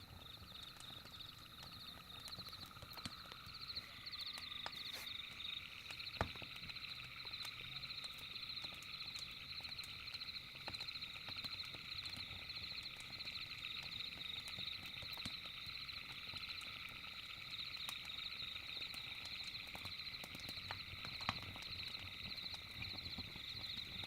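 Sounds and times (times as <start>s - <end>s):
campfire crackling: 0.0s - 24.0s
insects trilling: 0.0s - 24.0s.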